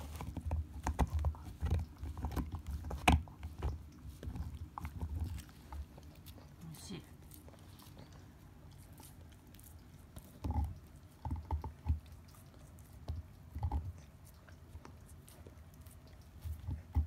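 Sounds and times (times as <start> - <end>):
dog gnawing on bone: 0.0 - 17.0.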